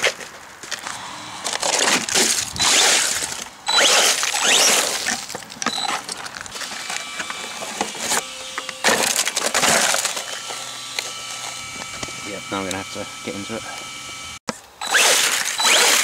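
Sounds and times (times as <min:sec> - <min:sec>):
tyres on gravel: 0:00.0 - 0:12.8
electric motor whine: 0:00.8 - 0:16.0.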